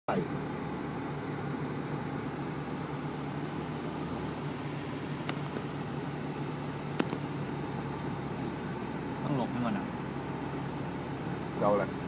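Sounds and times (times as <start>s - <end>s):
vehicle engine humming: 0.1s - 12.0s.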